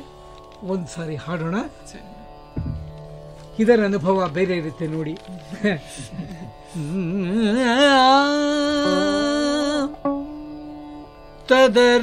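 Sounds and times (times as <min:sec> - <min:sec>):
veena music with ornaments: 0:00.0 - 0:12.0.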